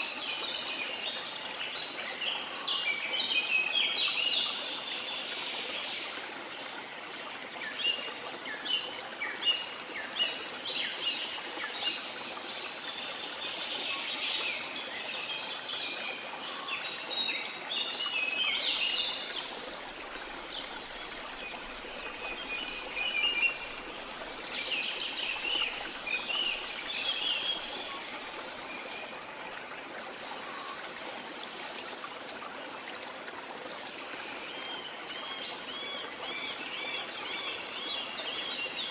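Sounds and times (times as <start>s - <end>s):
waterfall: 0.0s - 38.9s.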